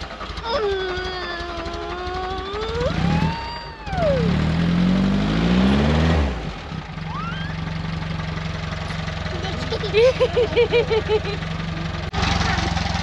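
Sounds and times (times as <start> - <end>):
van engine starting and idling: 0.0 - 13.0.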